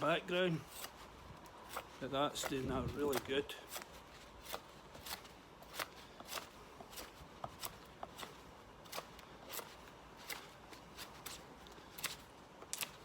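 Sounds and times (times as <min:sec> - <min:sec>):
knife scraping bark from stick: 0:00.0 - 0:13.0.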